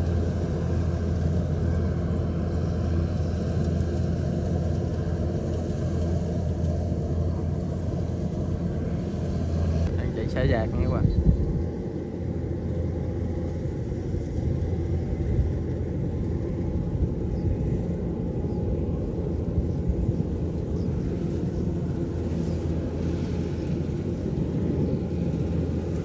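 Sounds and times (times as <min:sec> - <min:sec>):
combine harvester engine rumble: 0:00.0 - 0:26.0.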